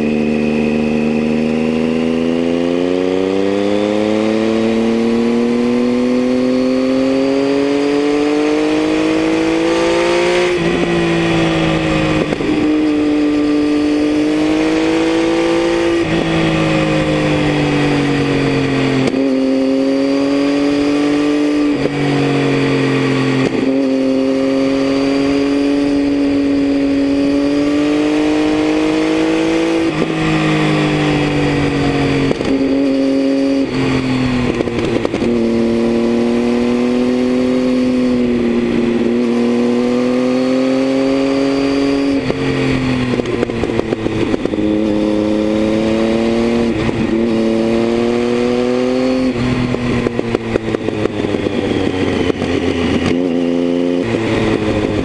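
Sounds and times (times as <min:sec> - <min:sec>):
motorcycle engine on the road: 0:00.0 - 0:55.0.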